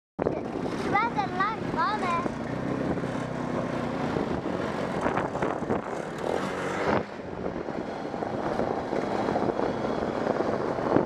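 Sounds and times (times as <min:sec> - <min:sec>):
quad bike engine running: 0:00.2 - 0:11.0.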